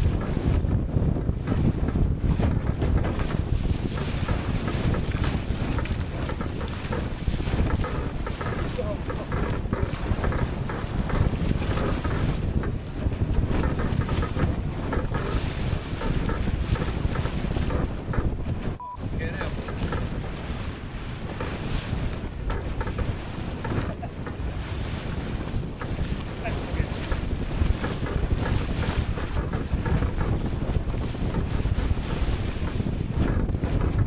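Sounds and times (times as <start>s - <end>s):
water splashing around boat: 0.0s - 34.0s
wind buffeting microphone: 0.0s - 34.0s.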